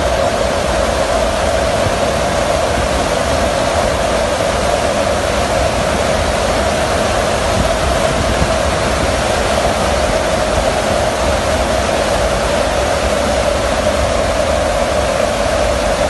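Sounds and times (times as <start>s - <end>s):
even hum: 0.0s - 16.0s
wind and engine noise in aircraft: 0.0s - 16.0s.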